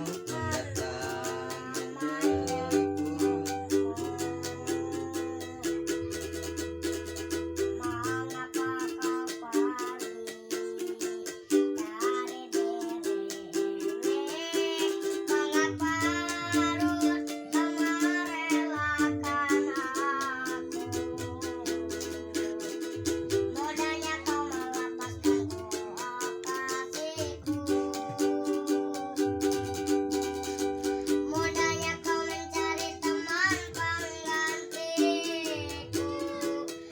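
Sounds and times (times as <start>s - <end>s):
child singing: 0.0s - 36.9s
ukulele strumming chords: 0.0s - 36.9s.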